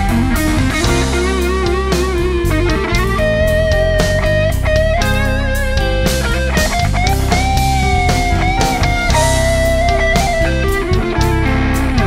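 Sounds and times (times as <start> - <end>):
electric guitar solo: 0.0 - 12.0
rock band backing: 0.0 - 12.0.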